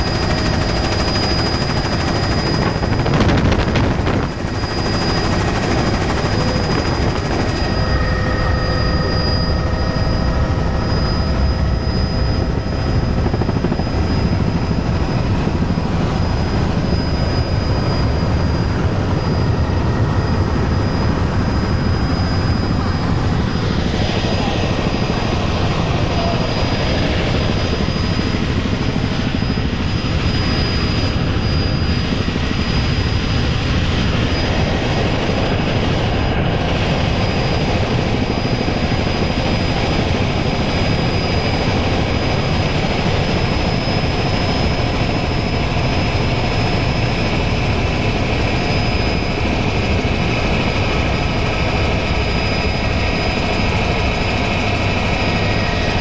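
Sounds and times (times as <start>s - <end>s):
helicopter engine and rotor noise: 0.0s - 56.0s
high whine: 0.0s - 56.0s.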